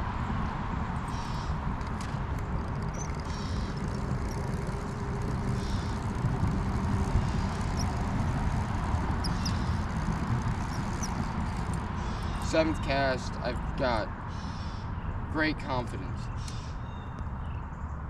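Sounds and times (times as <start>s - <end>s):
low rumbling noise: 0.0s - 14.6s.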